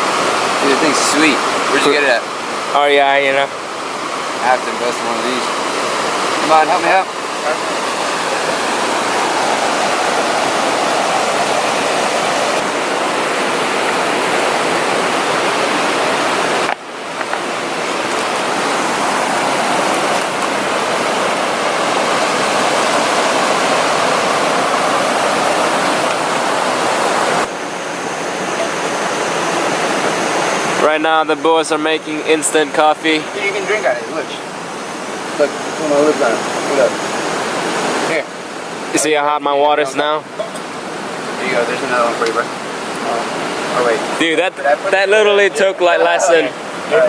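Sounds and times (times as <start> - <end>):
stream rushing: 0.0 - 47.0.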